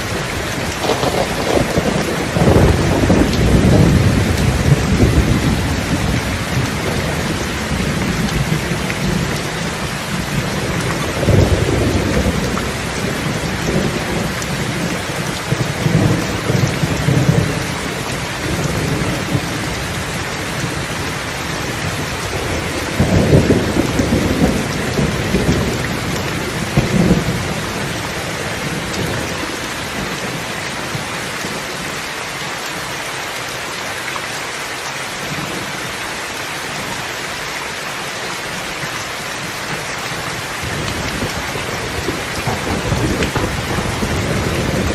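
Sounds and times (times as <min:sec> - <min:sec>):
steady rain: 0:00.0 - 0:44.9
low rolling thunder: 0:00.1 - 0:31.6, 0:40.2 - 0:44.9.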